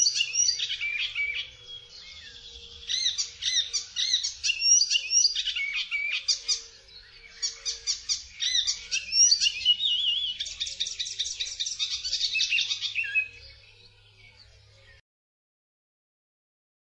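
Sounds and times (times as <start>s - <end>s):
warbler singing: 0.0s - 15.0s.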